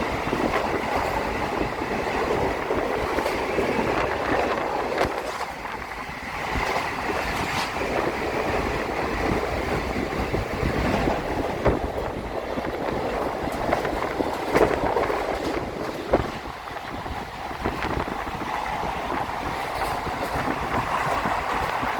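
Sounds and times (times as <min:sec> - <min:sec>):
train carriage rumbling on rails: 0:00.0 - 0:21.9.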